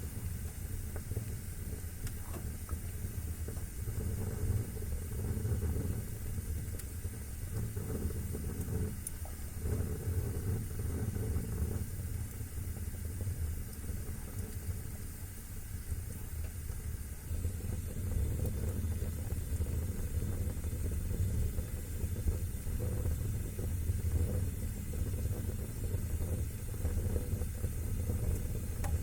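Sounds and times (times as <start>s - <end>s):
faint fire crackling: 0.0s - 29.0s
wood fire burning: 0.0s - 29.0s.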